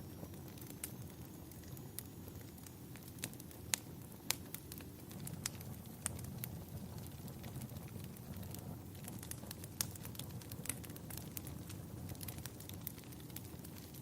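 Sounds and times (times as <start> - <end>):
fire crackles and pops: 0.0 - 14.0
fire rumbling: 0.0 - 14.0.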